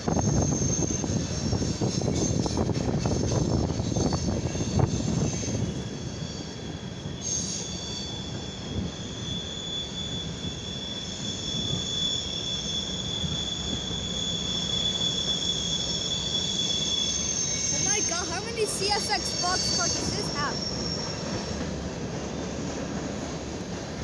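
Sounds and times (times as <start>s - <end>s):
freight cars rumbling on rails: 0.0s - 9.1s, 11.5s - 24.0s
high-pitched wheel squeal: 0.0s - 21.8s.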